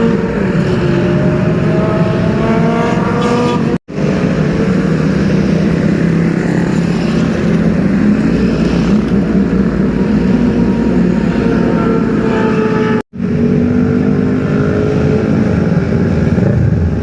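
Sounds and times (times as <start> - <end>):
engine running at low revs: 0.0 - 17.0
motorcycle engine accelerating: 0.0 - 17.0.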